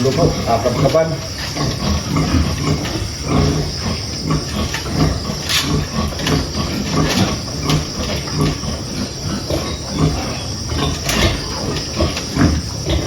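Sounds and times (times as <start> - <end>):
sow grunting: 0.0 - 13.0.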